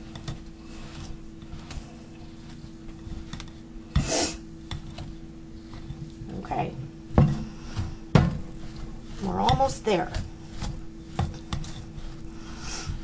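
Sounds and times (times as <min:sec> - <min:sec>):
pastry blender scraping in glass bowl: 0:00.0 - 0:06.6, 0:07.3 - 0:13.0.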